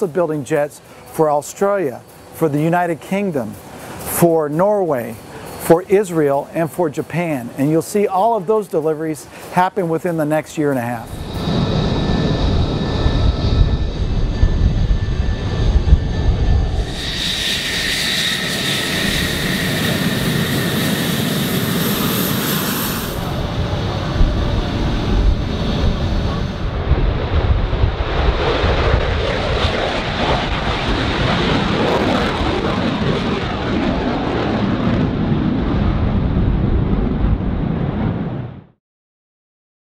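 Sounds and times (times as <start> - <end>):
jet engine rushing roar: 0.0 - 38.7
jet engine high whine: 0.0 - 38.8.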